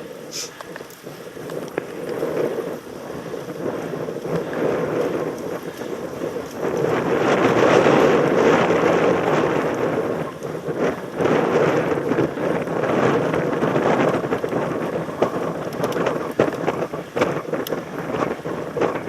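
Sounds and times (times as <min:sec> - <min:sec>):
bike clicks and rattles: 0:00.0 - 0:19.0
tyres rumbling over trail: 0:00.0 - 0:19.0
wind buffeting microphone: 0:00.0 - 0:19.0.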